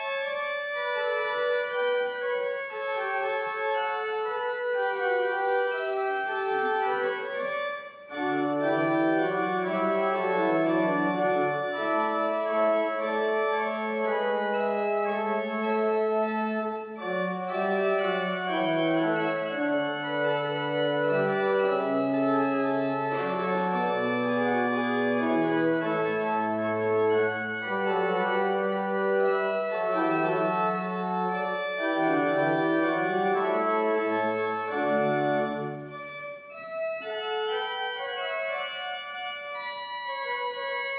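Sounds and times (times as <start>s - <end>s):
pipe organ playing held chords: 0.0s - 40.9s.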